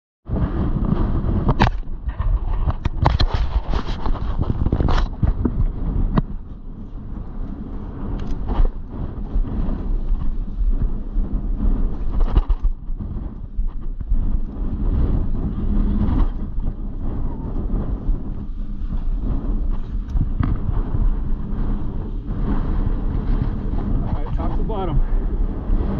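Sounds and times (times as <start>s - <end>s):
wind buffeting microphone: 0.2s - 25.9s.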